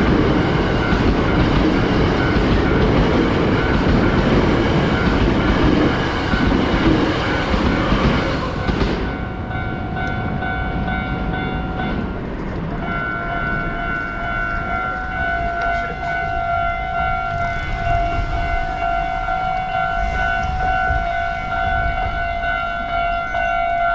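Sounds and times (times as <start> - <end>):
level crossing warning alarm: 0.0 - 12.2, 12.8 - 23.9
train wheels rumbling: 0.0 - 23.9.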